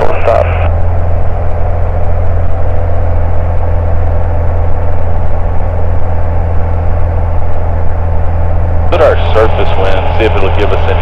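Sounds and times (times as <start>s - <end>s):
propeller plane engine hum: 0.0s - 11.0s.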